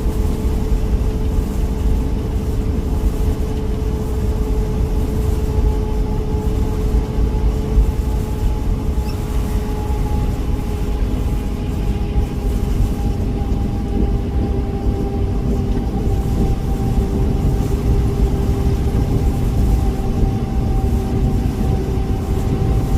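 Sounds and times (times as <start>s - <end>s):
vehicle engine and road rumble: 0.0s - 22.9s.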